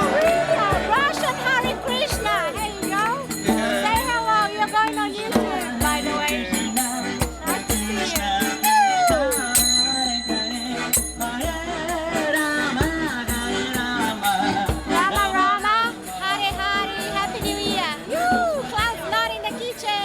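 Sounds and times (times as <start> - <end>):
jingling hand percussion: 0.0 - 20.0
person singing: 1.7 - 20.0.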